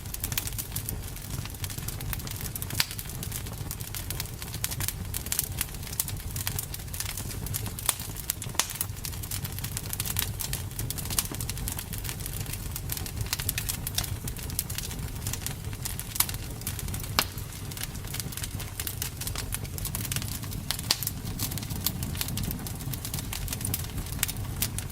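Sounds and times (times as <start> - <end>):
campfire wood crackling and popping: 0.0 - 24.9
low rumble of flames: 0.0 - 24.9.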